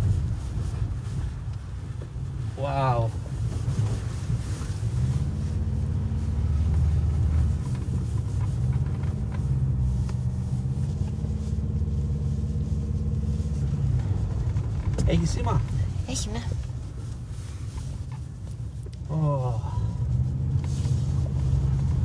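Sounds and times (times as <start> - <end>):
car engine drone from inside: 0.0 - 22.0.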